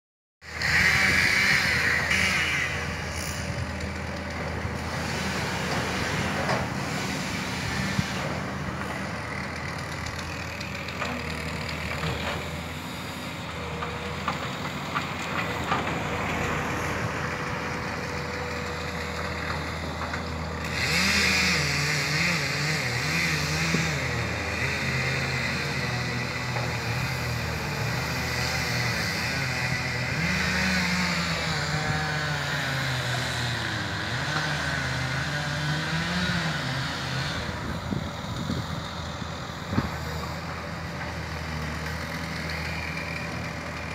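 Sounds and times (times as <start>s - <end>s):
excavator diesel engine running: 0.5s - 43.9s.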